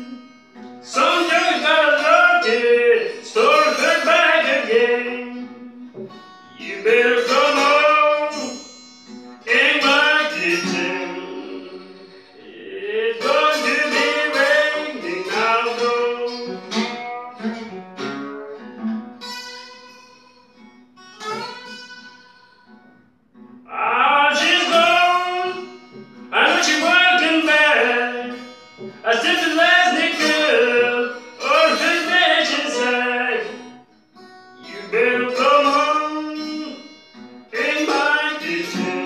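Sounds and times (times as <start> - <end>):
acoustic guitar playing blues: 0.0 - 39.0.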